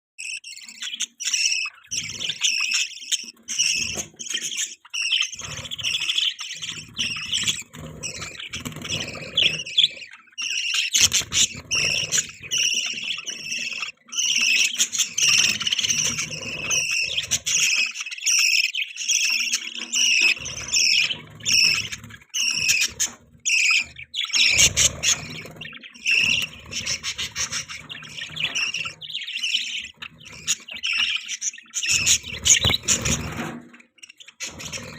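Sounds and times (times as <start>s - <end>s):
budgerigars chattering and warbling: 0.2s - 34.9s.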